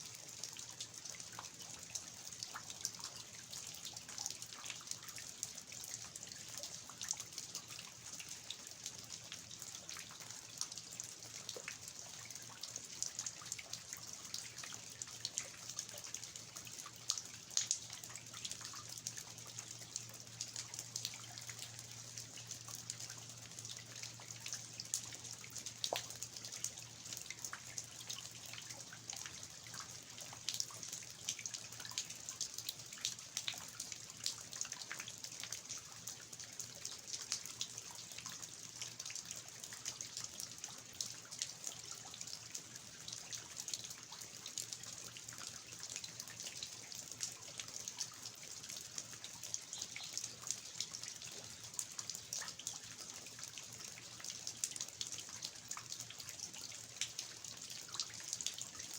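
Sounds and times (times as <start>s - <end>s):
water dripping from eaves: 0.0s - 58.9s.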